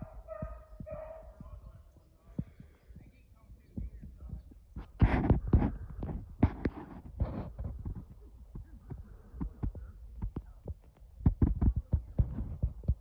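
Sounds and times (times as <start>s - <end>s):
low thumps: 0.0s - 13.0s.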